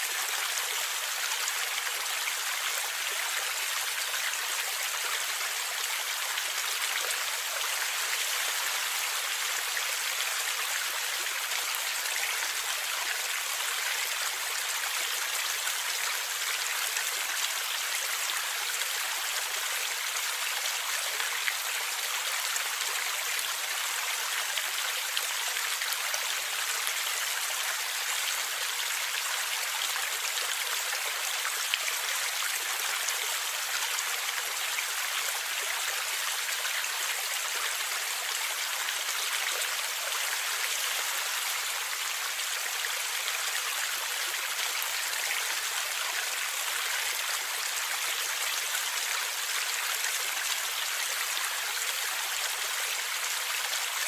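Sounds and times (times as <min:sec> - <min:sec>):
stream water gurgling: 0:00.0 - 0:54.0.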